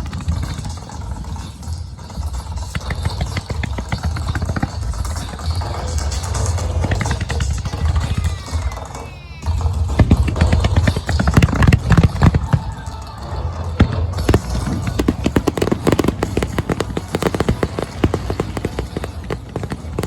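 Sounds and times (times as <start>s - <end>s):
fireworks banging: 0.0s - 8.9s, 9.5s - 20.0s
fireworks crackling: 0.0s - 20.0s.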